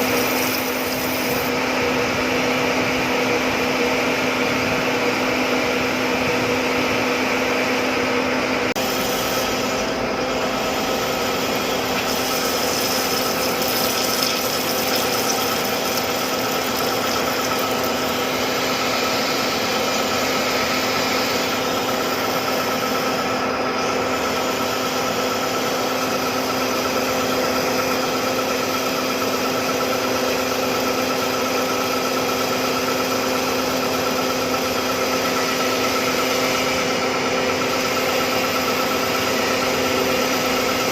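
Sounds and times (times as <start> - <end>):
metalworking machine whine: 0.0 - 40.9.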